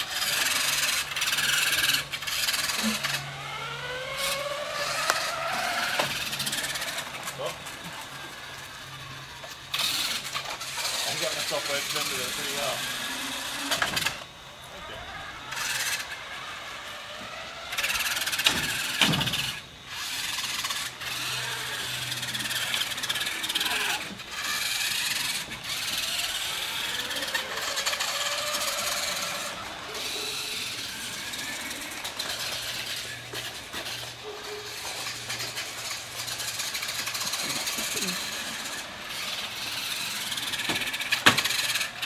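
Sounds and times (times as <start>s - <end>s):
model car motors whining: 0.0s - 42.0s.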